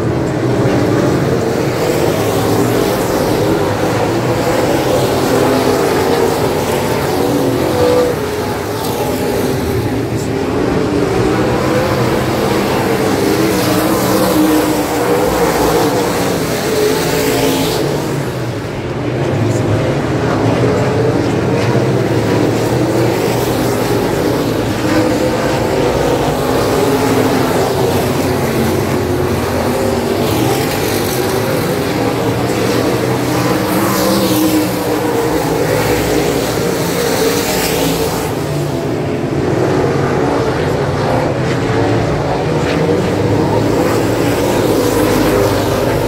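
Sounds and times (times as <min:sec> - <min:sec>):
race car engines droning: 0:00.0 - 0:46.0
race cars passing close by: 0:00.0 - 0:46.0.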